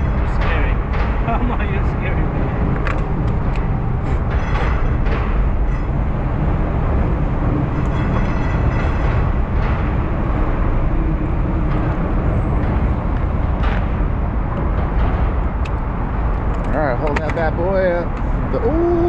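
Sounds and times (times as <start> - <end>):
boat low rumble: 0.0 - 19.0.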